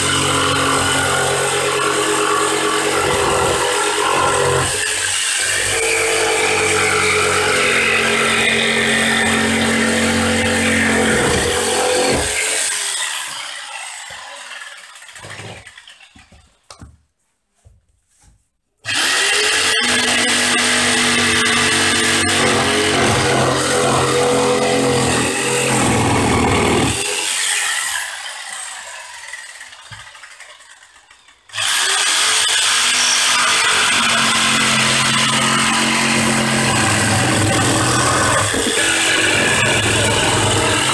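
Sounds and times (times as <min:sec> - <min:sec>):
jigsaw cutting wood: 0:00.0 - 0:16.6, 0:18.8 - 0:40.9.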